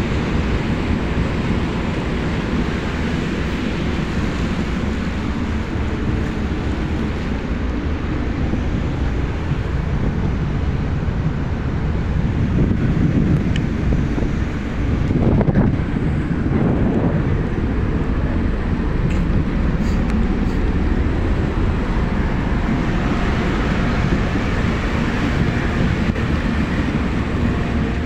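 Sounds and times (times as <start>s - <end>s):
boat engines running: 0.0s - 28.0s
wind on microphone: 0.0s - 28.0s.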